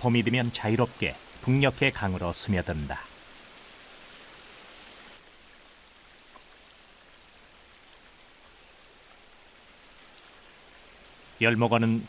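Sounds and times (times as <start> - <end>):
stream water running over stones: 0.0 - 12.0.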